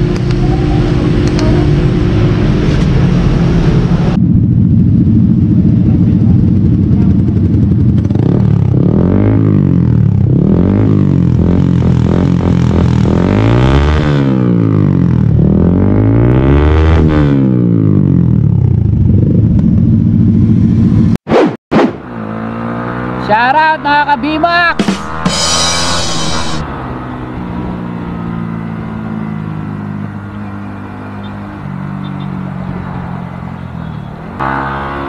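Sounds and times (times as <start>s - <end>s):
motorcycle engine revving: 0.0s - 21.2s, 22.0s - 32.7s.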